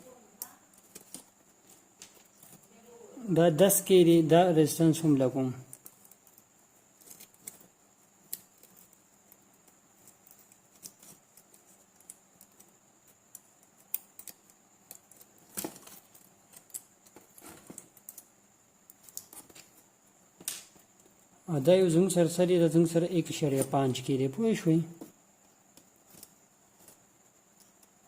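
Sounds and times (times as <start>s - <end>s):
faint steady high whine: 0.0s - 28.0s.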